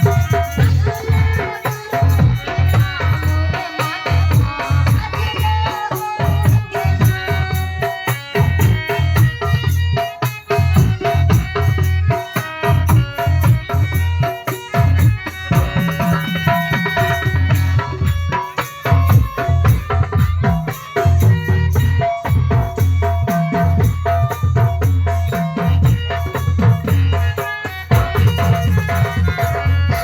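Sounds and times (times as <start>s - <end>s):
hand drum beat: 0.0s - 30.0s.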